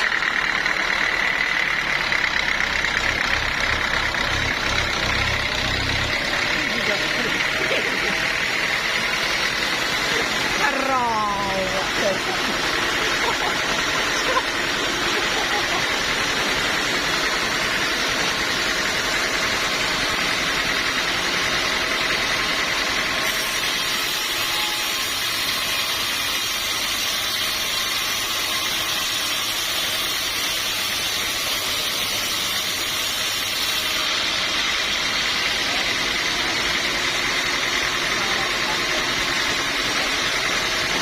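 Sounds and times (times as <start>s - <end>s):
sawmill machinery drone: 0.0s - 41.0s.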